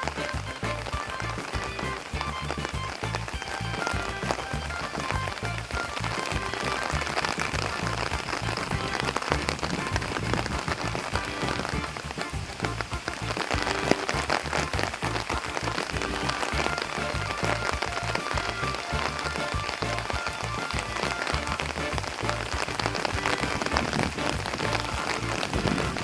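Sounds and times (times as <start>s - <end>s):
heavy rain on hard surfaces: 0.0s - 26.0s.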